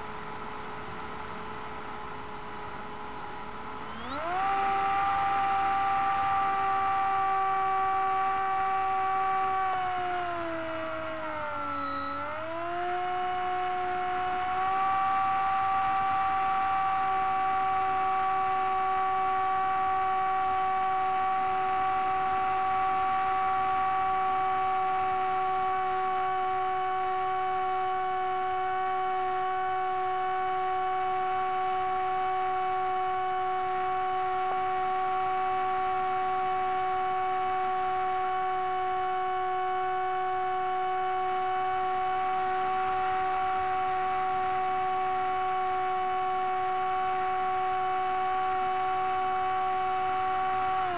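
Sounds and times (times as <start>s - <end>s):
model plane motor whine: 2.9s - 50.9s.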